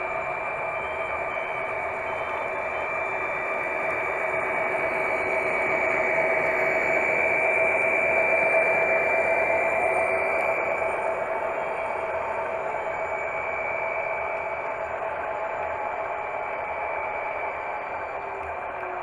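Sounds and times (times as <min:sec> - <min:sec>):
model train whine and rolling: 0:00.0 - 0:19.0.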